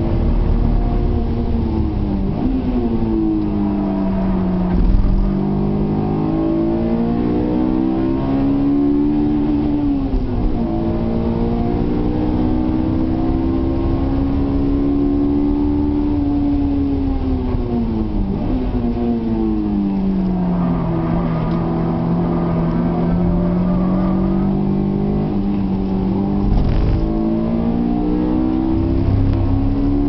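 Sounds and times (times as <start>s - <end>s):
car engine revving: 0.0s - 30.0s
road and wind noise: 0.0s - 30.0s.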